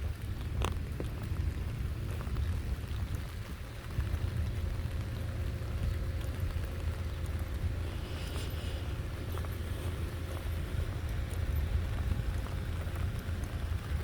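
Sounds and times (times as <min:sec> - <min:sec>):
rain falling: 0:00.0 - 0:14.0
sharp raindrop ticks: 0:00.0 - 0:14.0
steady low rumble: 0:00.0 - 0:14.0.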